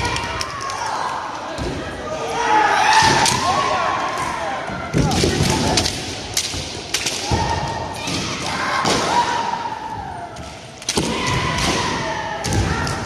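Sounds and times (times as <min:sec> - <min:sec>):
people shouting: 0:00.0 - 0:05.7, 0:07.2 - 0:13.0.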